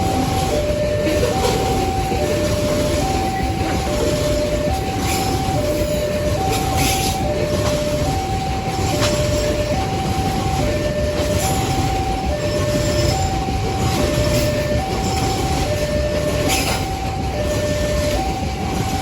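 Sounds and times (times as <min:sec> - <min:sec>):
level crossing alarm two-tone: 0:00.0 - 0:19.0
train rumbling past: 0:00.0 - 0:19.0
train wheels clanking: 0:00.0 - 0:19.0.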